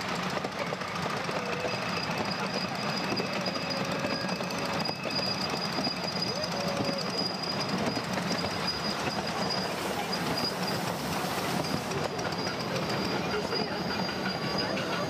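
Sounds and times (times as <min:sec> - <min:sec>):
miniature train clattering on rails: 0:00.0 - 0:15.0.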